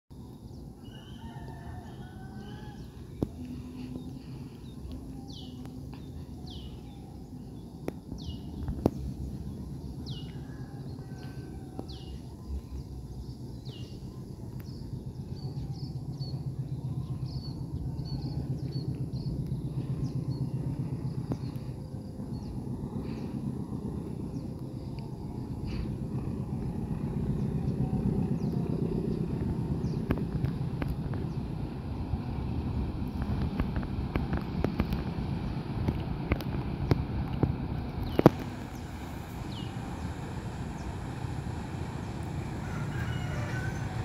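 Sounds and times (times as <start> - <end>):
low rumble: 0.1 - 44.0.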